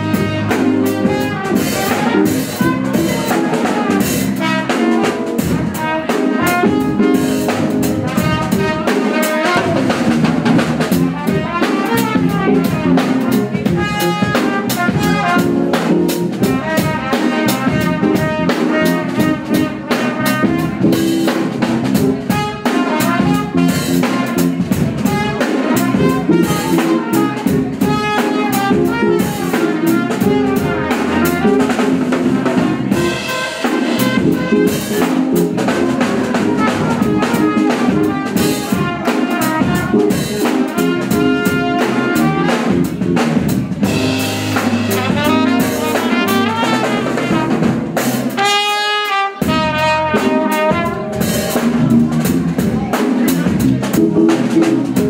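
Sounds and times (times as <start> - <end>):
trumpet playing lead: 0.0 - 43.2, 43.8 - 52.9
drum kit snare and cymbals: 0.0 - 55.0.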